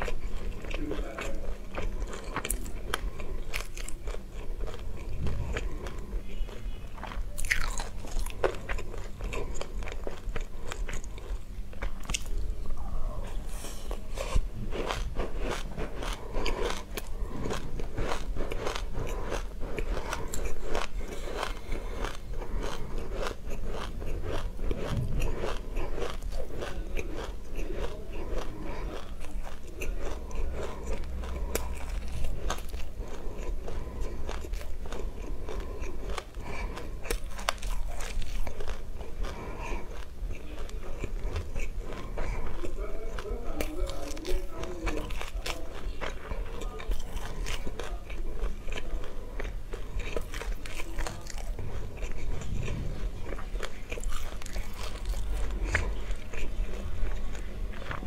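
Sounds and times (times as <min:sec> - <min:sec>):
crunchy chewing of seeds: 0:00.0 - 0:58.0.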